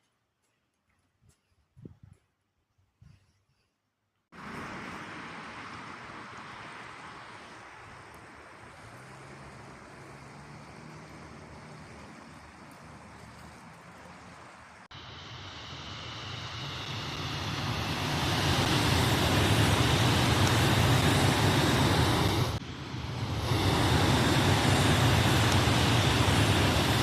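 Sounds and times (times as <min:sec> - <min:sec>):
vehicle rumbling: 0:04.4 - 0:27.0.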